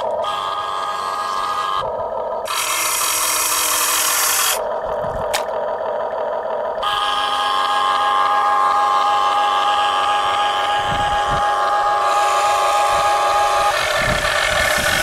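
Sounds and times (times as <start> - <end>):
electric gear motors whining: 0.0 - 15.0
harsh grinding buzz: 0.0 - 15.0.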